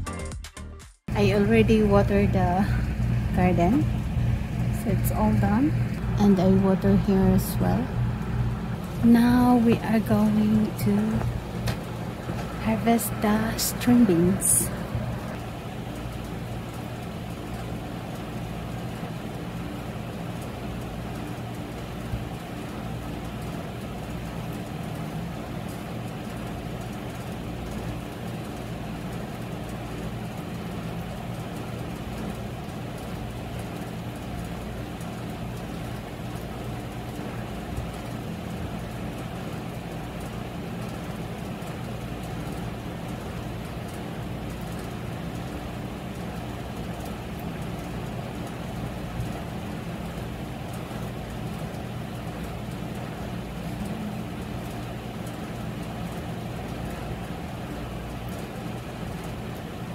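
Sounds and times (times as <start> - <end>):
low mechanical hum and rumble: 1.1 - 59.9.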